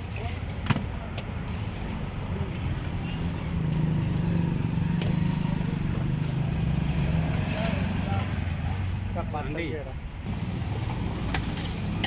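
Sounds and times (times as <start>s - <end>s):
street traffic: 0.0s - 12.0s
vehicle engine humming: 1.6s - 12.0s.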